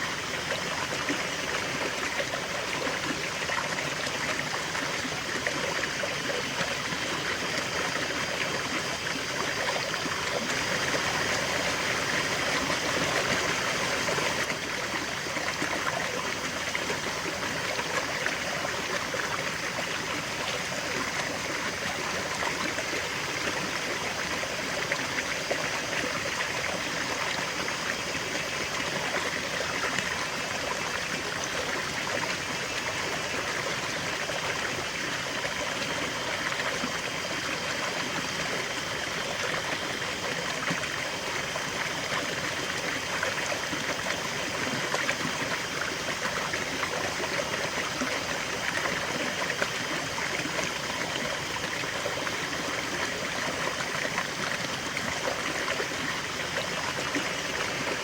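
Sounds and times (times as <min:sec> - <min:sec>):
river water flowing over stones: 0:00.0 - 0:58.0.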